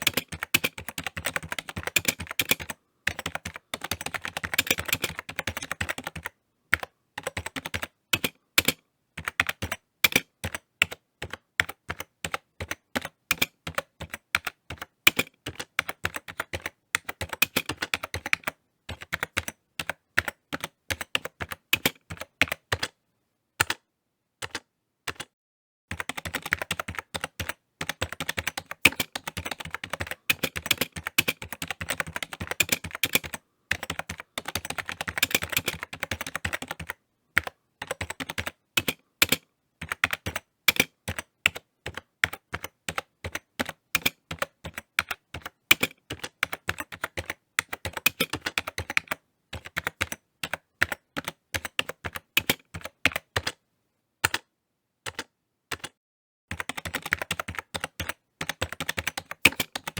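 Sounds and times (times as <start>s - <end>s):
typing on computer keyboard: 0.0s - 23.0s, 23.6s - 23.8s, 24.4s - 53.6s, 54.2s - 59.9s.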